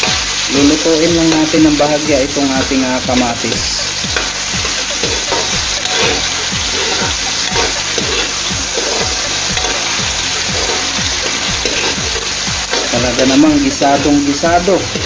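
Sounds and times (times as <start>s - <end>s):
vegetables sizzling in hot oil: 0.0s - 15.0s
metal ladle stirring in wok: 2.4s - 15.0s.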